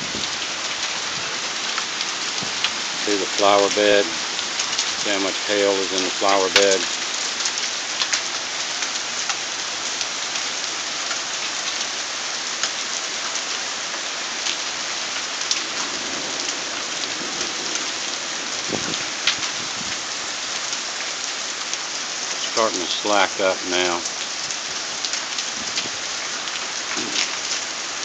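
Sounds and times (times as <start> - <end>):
hailstones striking roof and ground: 0.0 - 12.0, 14.2 - 21.0, 22.3 - 28.0
rain pelting down: 0.0 - 28.0.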